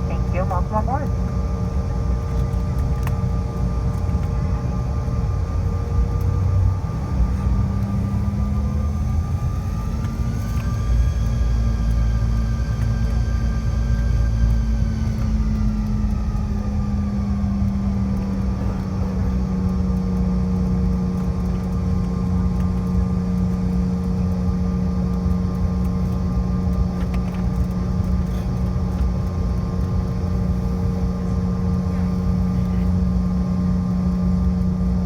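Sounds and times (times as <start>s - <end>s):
jet engines humming in cabin: 0.0s - 35.0s.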